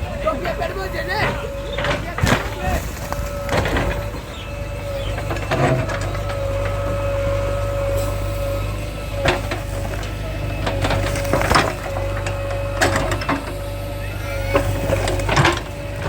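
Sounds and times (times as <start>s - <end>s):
diesel engine running with whine: 0.0s - 16.0s.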